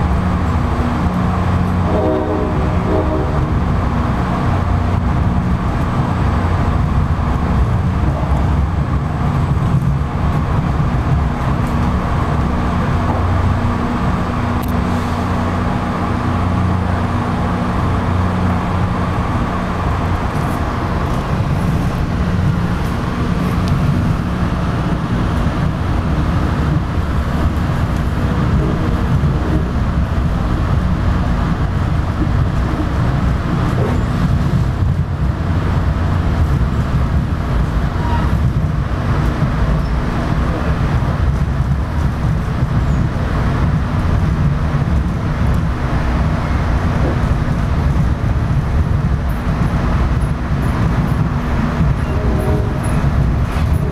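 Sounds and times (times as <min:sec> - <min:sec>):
train rumble inside coach: 0:00.0 - 0:53.9.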